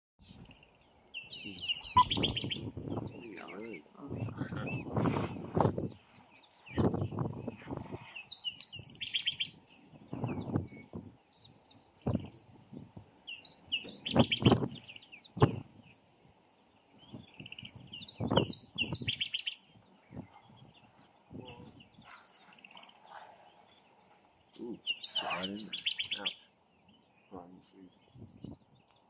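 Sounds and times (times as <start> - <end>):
birds chirping: 0.2 - 29.0.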